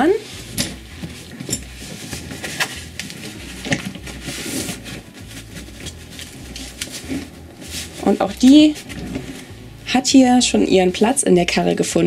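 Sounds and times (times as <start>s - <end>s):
cloth and strap rustling: 0.0s - 12.0s.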